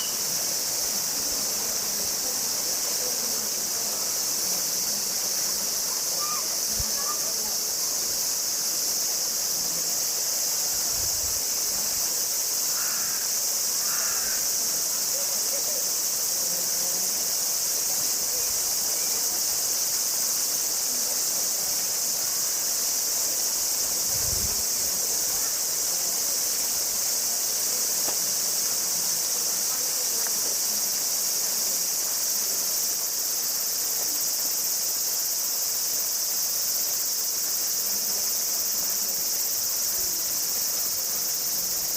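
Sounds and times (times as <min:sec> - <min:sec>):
cicadas droning: 0:00.0 - 0:41.9.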